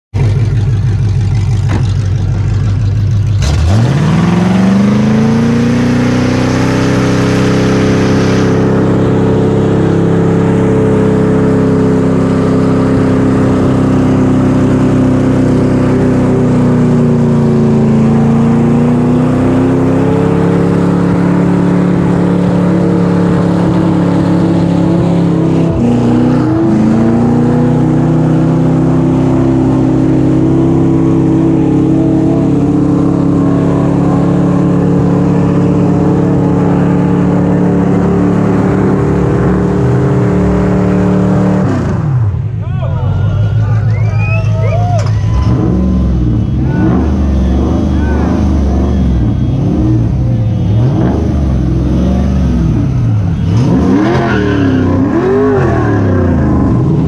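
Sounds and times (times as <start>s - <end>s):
car engine revving: 0.1s - 42.6s, 43.4s - 57.0s.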